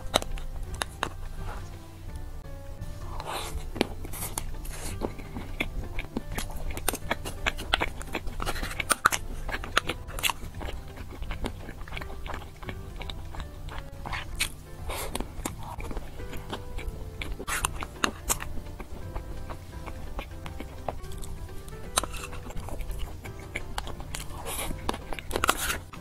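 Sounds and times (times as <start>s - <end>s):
crunching and chewing dessert: 0.0s - 26.0s.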